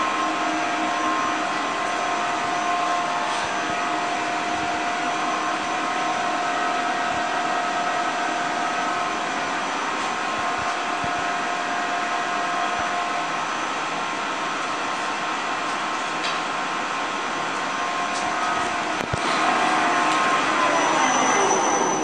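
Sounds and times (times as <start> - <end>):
machine whir with high whine: 0.0 - 22.0.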